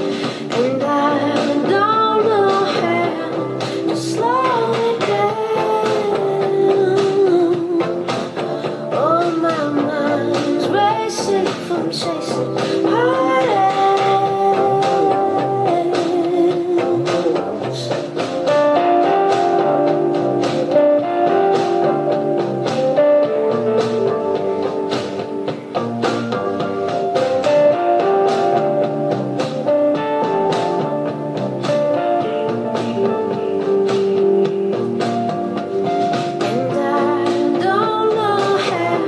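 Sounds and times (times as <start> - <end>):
pop-rock music through laptop speakers: 0.0 - 39.0.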